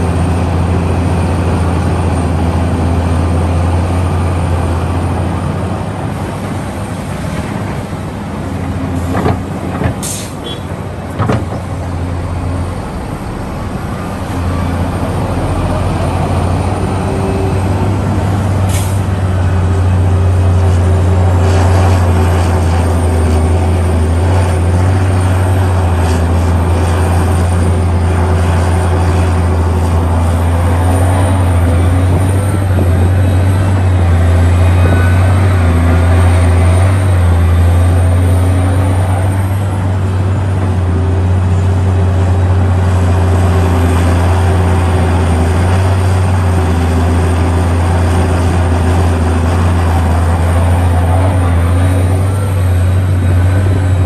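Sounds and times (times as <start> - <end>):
excavator diesel engine drone: 0.0 - 54.0.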